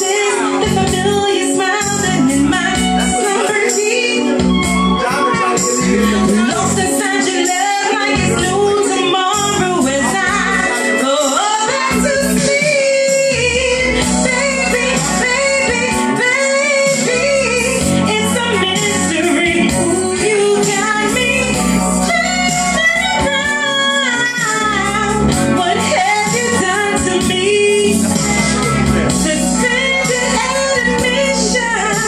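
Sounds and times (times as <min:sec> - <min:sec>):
instrumental backing music: 0:00.0 - 0:32.0
woman singing: 0:00.0 - 0:32.0.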